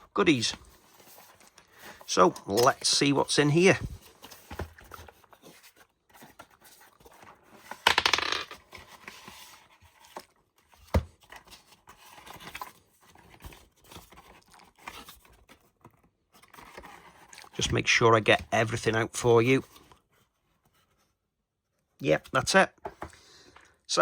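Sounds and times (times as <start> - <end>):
rustling and scraping of packaging: 0.0 - 21.3.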